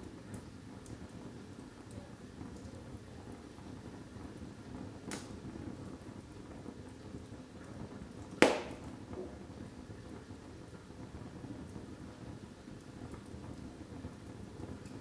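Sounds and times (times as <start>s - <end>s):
fire burning and crackling: 0.0s - 15.0s
wood fire popping: 0.0s - 15.0s.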